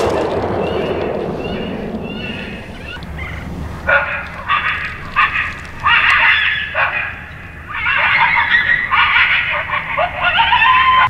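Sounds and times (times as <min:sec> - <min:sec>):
coyotes yipping and howling: 0:00.0 - 0:11.0.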